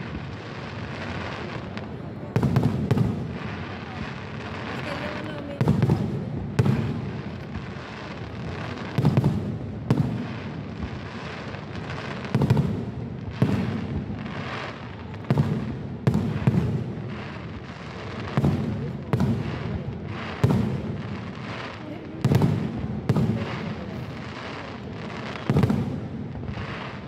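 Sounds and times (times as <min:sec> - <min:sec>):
fireworks bangs: 0:00.0 - 0:27.0
fireworks rumble: 0:00.0 - 0:27.0.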